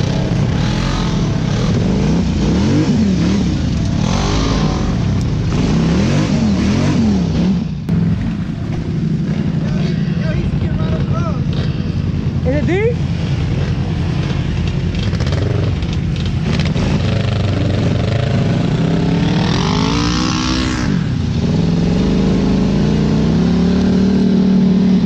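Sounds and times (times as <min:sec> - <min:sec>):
quad bike engine revving: 0:00.0 - 0:10.1, 0:14.2 - 0:25.0.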